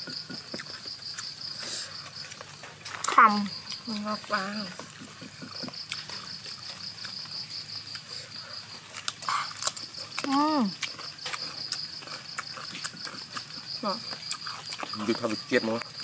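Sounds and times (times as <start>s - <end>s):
insect trilling: 0.0s - 16.0s
people chewing: 0.0s - 16.0s.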